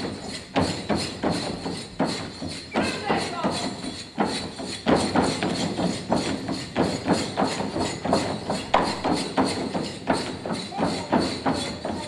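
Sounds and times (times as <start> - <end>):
feet stamping in rhythm: 0.0 - 12.0.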